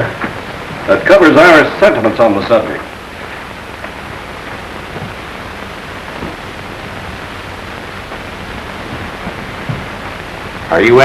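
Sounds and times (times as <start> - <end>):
old film soundtrack hiss: 0.0 - 11.0.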